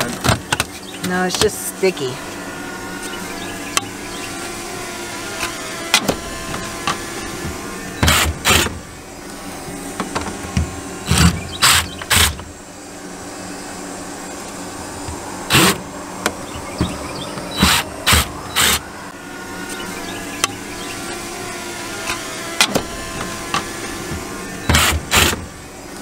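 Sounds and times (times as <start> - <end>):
steady humming background: 0.0 - 26.0.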